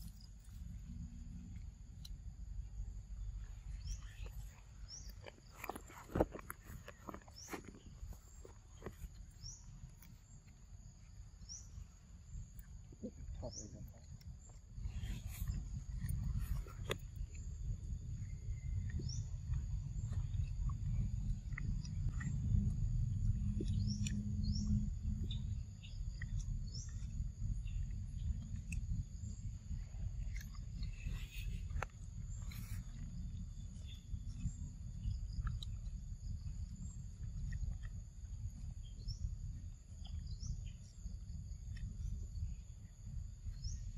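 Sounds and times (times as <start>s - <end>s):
low hum: 0.0s - 43.9s
low steady rumble: 0.0s - 43.9s
monkey chewing and crunching: 0.0s - 43.9s
birds chirping: 2.7s - 38.0s.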